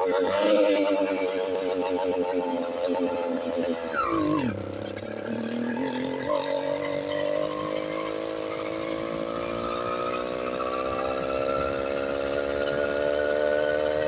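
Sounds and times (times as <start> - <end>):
small motorized bicycle engine: 0.0 - 14.0.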